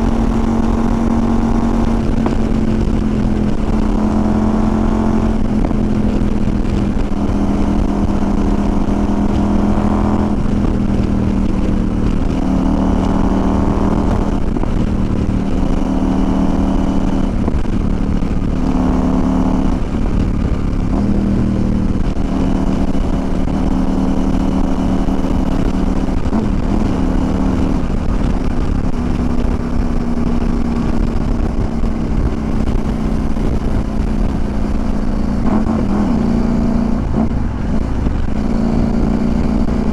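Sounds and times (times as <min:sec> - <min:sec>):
motorcycle engine while riding: 0:00.0 - 0:39.9
wind rushing: 0:00.0 - 0:39.9.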